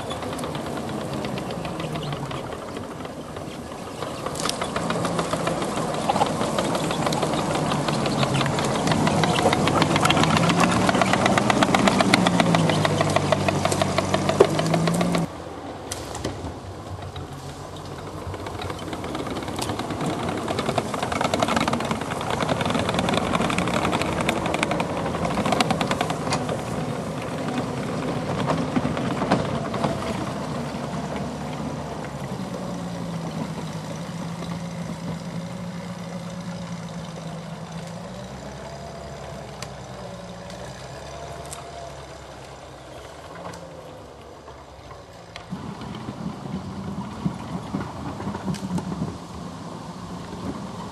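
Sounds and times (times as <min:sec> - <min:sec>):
tracked vehicle engine running: 0:00.0 - 0:50.9.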